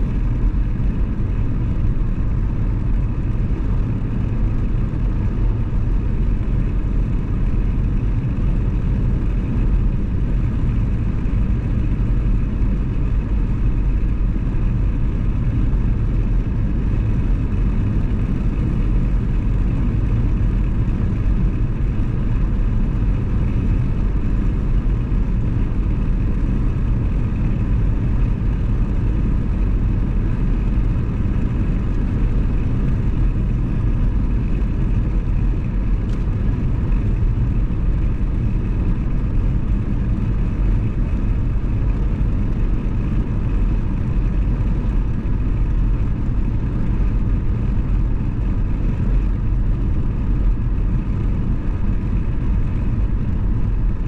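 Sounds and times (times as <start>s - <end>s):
car cruising road noise: 0.0s - 54.0s.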